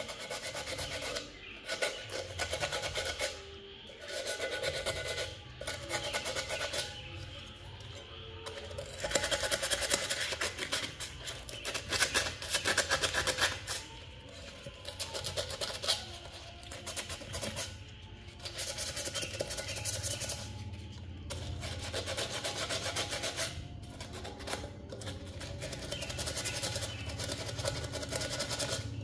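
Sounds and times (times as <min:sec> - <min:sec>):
sandpaper scraping on metal mug: 0:00.0 - 0:29.0.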